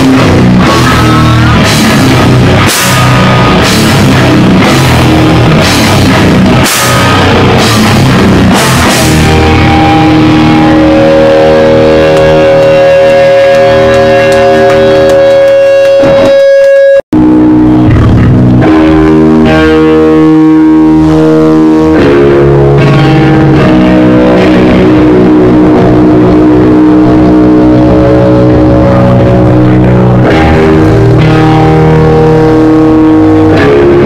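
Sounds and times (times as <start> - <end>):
loud electric guitars: 0.0 - 34.0.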